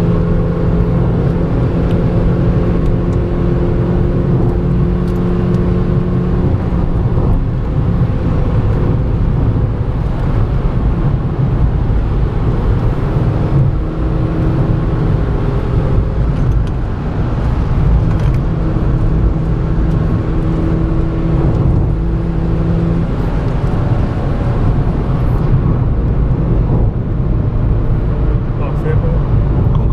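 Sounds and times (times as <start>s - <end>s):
car engine running while driving: 0.0s - 29.9s
road and tyre noise: 0.0s - 29.9s.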